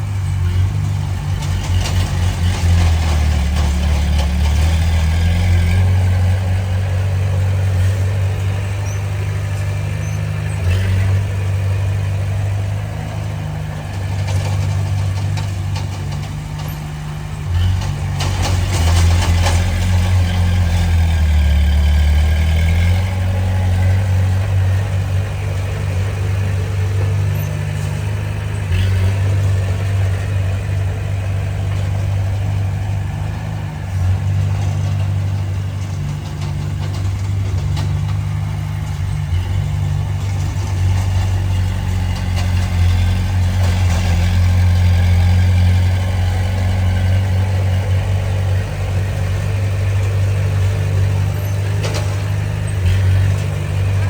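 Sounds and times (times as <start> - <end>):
bulldozer diesel engine droning: 0.0 - 54.0.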